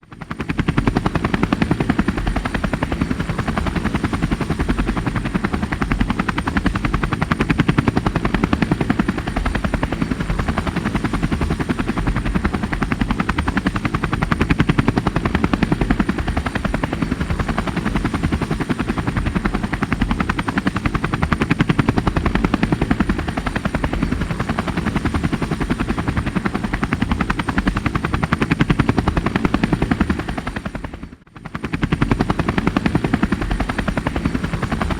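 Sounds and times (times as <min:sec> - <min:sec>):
helicopter rotor chopping: 0:00.1 - 0:34.9.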